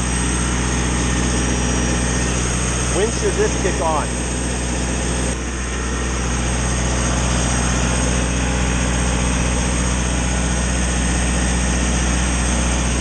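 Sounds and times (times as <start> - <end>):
diesel generator engine drone: 0.0 - 13.0.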